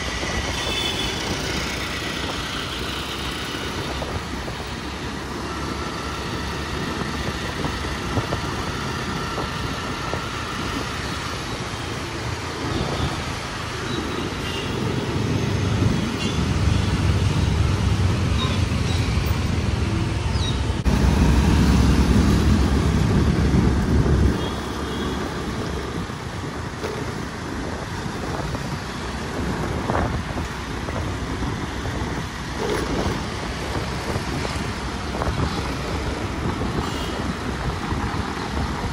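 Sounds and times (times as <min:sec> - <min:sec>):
traffic hum of engines and tyres: 0:00.0 - 0:38.9.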